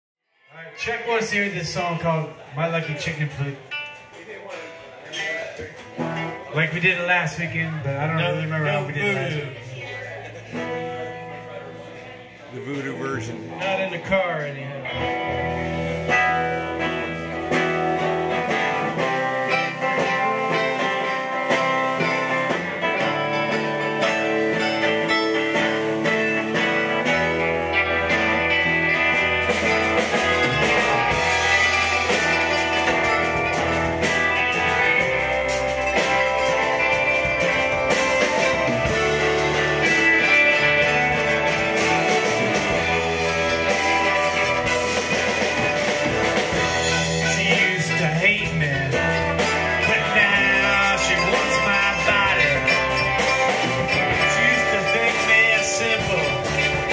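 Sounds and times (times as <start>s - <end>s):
live rock band playing: 0.4s - 56.9s.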